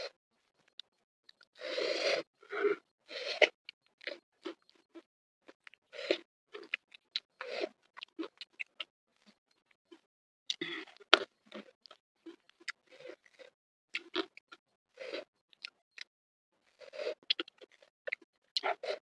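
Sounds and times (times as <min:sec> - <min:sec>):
chewing crispy fried fish: 0:03.4 - 0:19.0.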